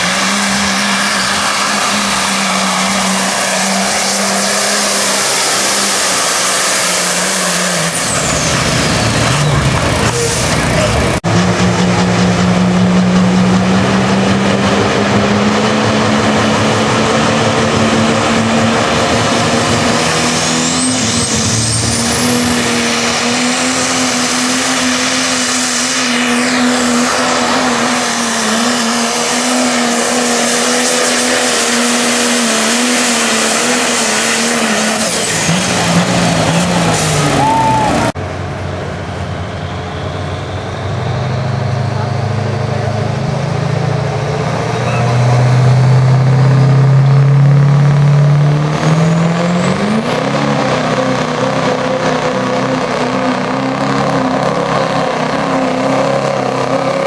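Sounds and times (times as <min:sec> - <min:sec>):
pickup truck engine under heavy load: 0:00.0 - 0:57.0.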